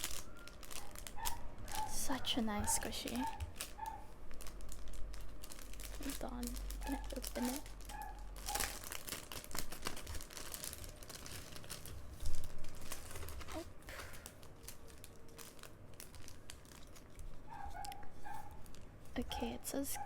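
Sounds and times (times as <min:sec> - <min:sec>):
packaging crinkling and tearing: 0:00.0 - 0:19.6.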